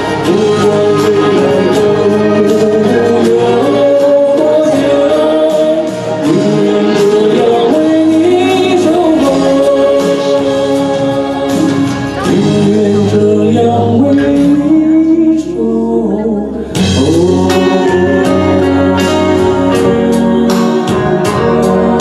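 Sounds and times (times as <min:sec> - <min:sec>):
instrumental accompaniment with beat: 0:00.0 - 0:22.0
man singing into a microphone: 0:00.0 - 0:22.0.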